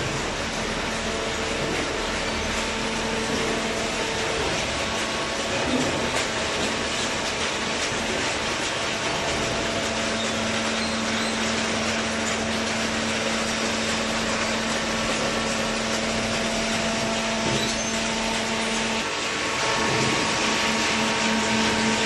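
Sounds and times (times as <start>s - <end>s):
baler machine hum: 0.0s - 22.0s.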